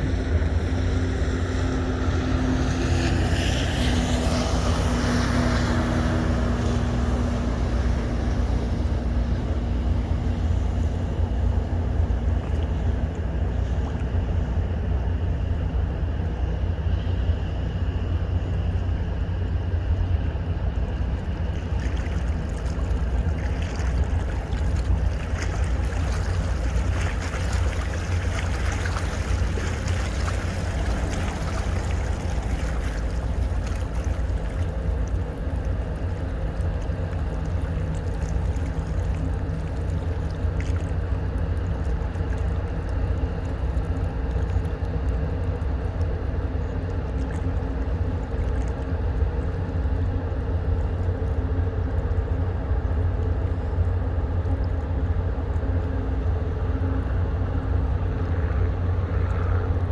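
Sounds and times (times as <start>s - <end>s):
boat engines rumbling: 0.0s - 59.9s
churning water hiss: 0.0s - 59.9s
water wash: 0.0s - 59.9s.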